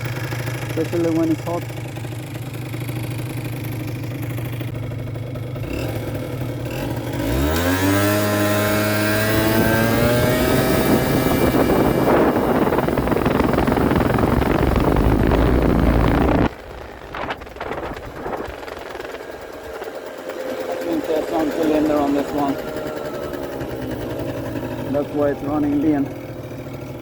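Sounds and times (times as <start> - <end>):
scooter engine revving: 0.0 - 27.0.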